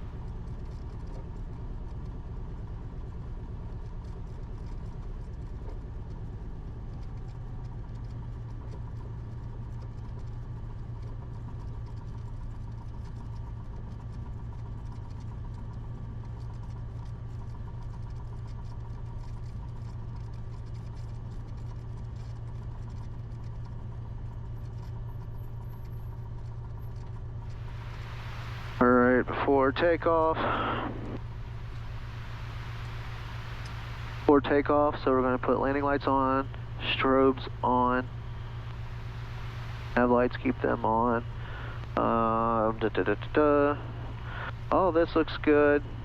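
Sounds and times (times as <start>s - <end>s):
light aircraft engine running: 0.0s - 46.0s.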